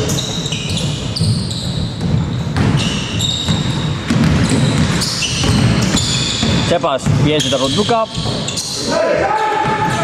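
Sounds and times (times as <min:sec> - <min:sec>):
basketball bouncing: 0:00.0 - 0:08.7, 0:09.5 - 0:10.0
sneakers squeaking on floor: 0:00.0 - 0:10.0.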